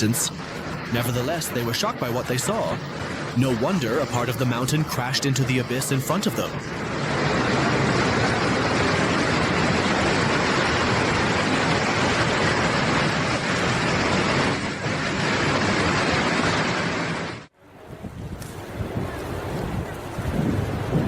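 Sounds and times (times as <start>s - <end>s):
landslide rushing noise: 0.0s - 21.0s.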